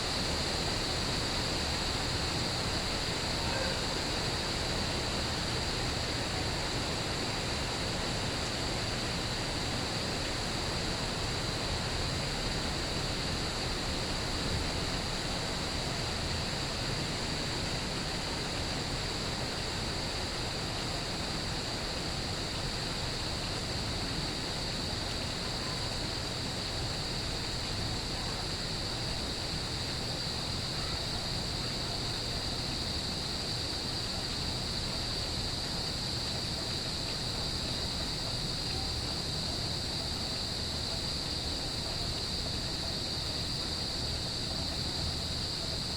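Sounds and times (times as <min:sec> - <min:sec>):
crickets trilling: 0:00.0 - 0:45.9
steady rain: 0:00.0 - 0:45.9.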